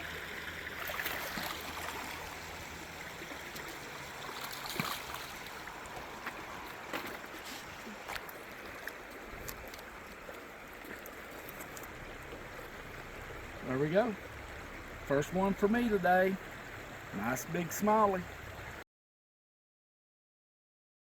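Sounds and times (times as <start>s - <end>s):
river water running: 0.0s - 18.8s.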